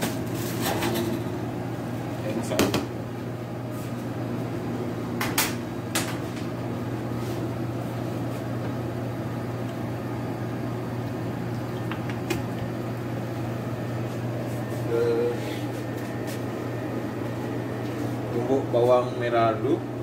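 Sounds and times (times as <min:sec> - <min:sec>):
kitchen machinery humming: 0:00.0 - 0:20.0.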